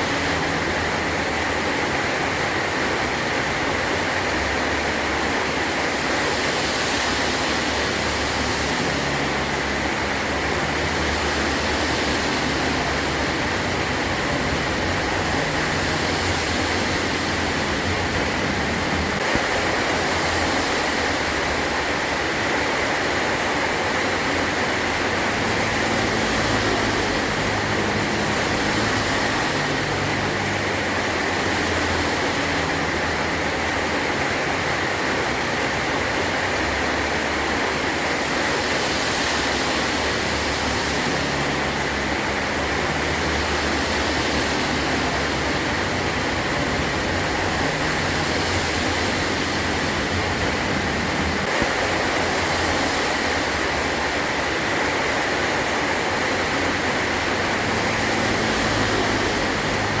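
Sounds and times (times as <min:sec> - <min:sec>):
heavy rain on a tin roof: 0:00.0 - 1:00.0.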